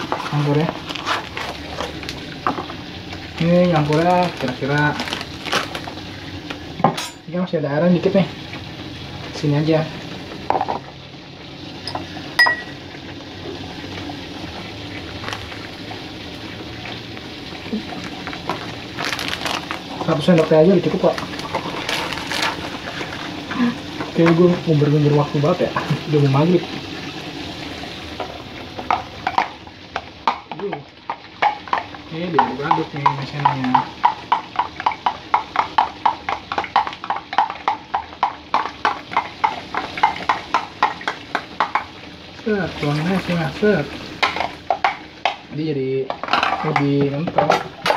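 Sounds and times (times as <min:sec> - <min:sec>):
sauce bubbling with pops: 0:00.0 - 0:06.8, 0:10.4 - 0:24.3, 0:26.6 - 0:45.5.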